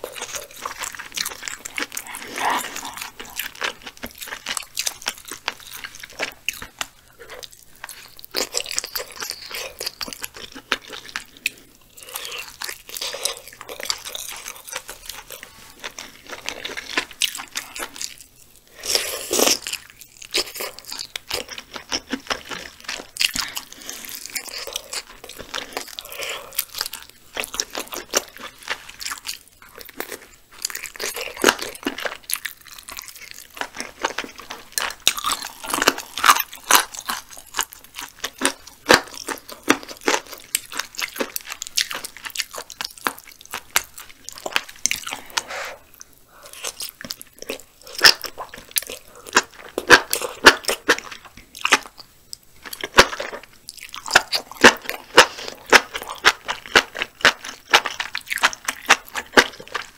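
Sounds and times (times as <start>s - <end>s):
close chewing and biting: 0.0s - 59.9s.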